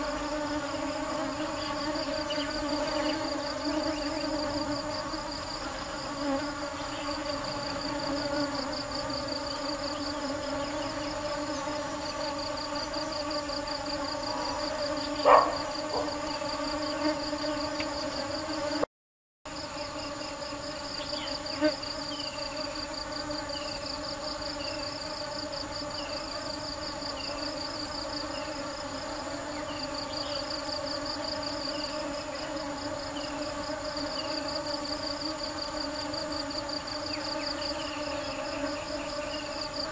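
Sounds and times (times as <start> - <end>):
honeybees buzzing: 0.0 - 18.9, 19.5 - 39.9.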